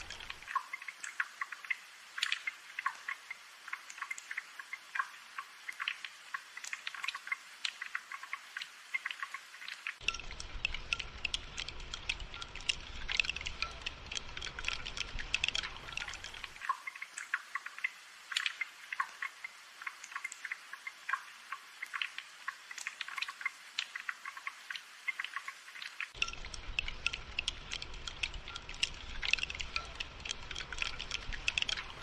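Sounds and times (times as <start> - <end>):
rain dripping and pattering: 0.0 - 32.0.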